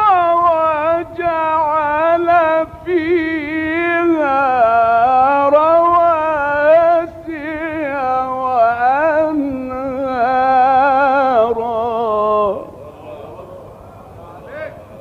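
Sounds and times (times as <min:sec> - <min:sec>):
man reciting melodically: 0:00.0 - 0:13.8.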